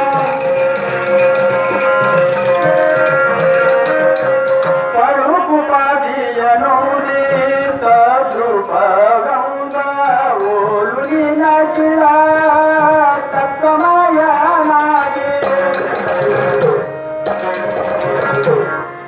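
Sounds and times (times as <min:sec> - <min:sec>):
high metallic clinks: 0:00.0 - 0:05.0, 0:06.3 - 0:19.0
man singing: 0:00.0 - 0:18.7
harmonium notes: 0:00.0 - 0:19.0.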